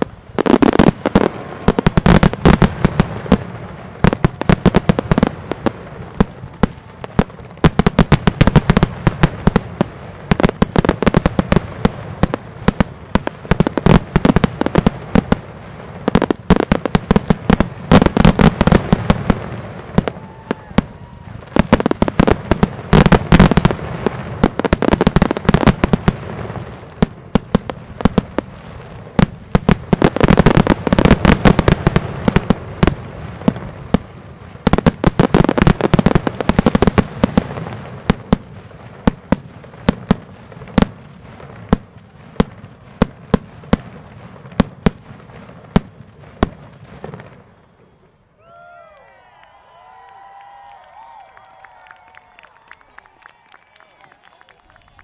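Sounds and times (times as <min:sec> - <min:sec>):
low fireworks booms: 0:00.0 - 0:48.4
fireworks crackling and popping: 0:00.0 - 0:55.0.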